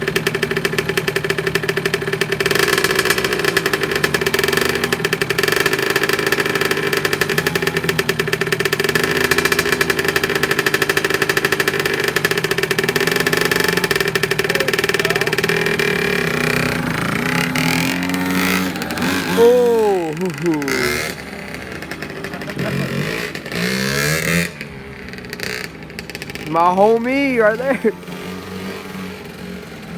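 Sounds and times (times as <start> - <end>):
dirt bike engine running: 0.0 - 29.9.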